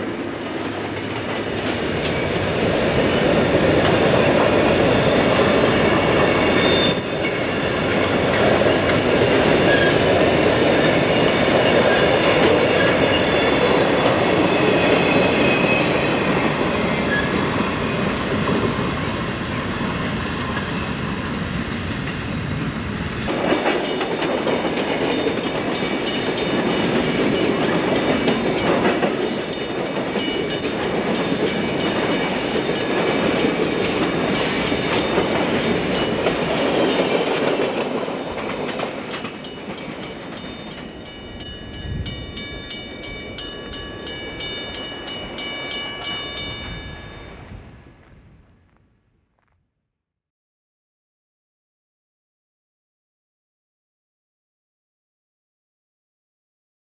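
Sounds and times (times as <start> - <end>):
freight train wheels rumbling: 0.0 - 48.8.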